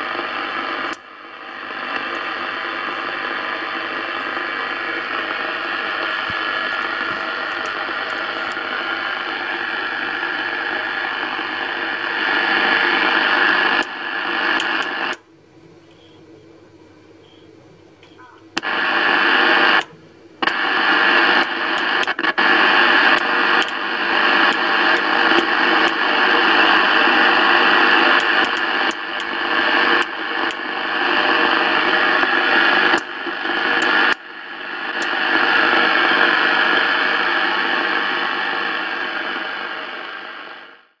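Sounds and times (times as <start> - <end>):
radio static hiss: 0.0 - 41.0.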